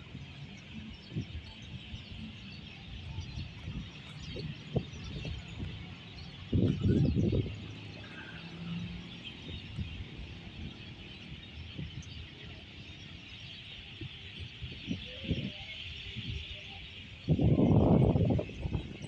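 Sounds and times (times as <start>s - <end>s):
dense chorus of high chirping: 0.0s - 19.0s.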